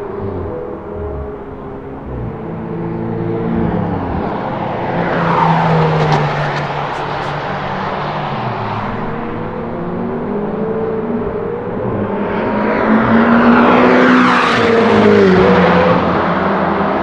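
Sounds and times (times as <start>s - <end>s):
sports car engine passing by: 0.0s - 17.0s.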